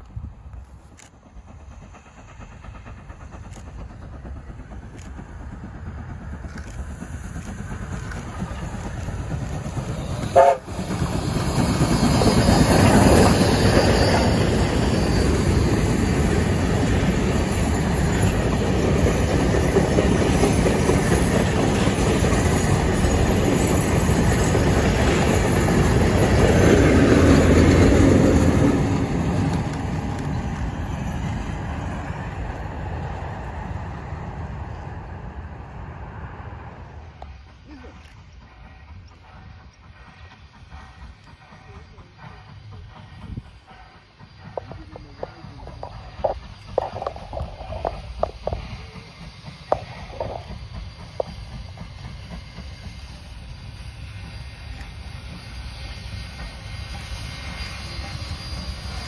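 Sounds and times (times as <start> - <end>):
diesel locomotive engine drone: 0.0 - 59.0
train passing: 0.0 - 59.0
wheels rumbling and clattering on rails: 0.0 - 59.0.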